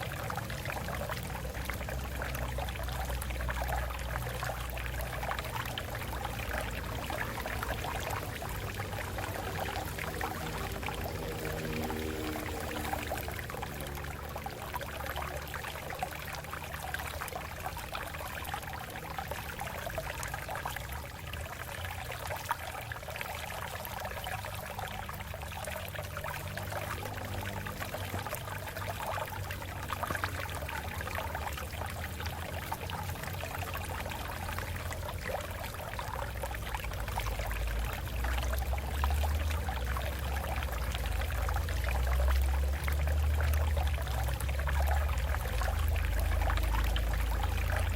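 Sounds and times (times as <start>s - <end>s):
water splashing over rocks: 0.0s - 47.9s.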